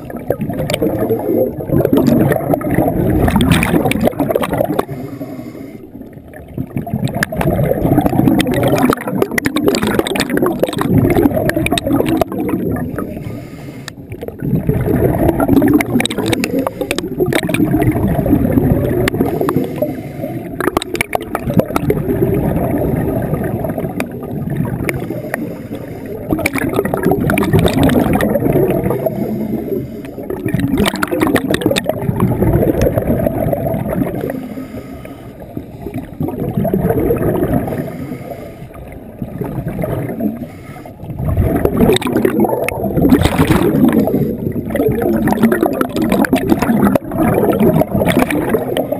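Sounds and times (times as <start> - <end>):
air bubbling underwater: 0.0 - 5.0, 6.3 - 13.2, 14.1 - 25.4, 26.2 - 34.4, 35.8 - 38.0, 38.9 - 48.9.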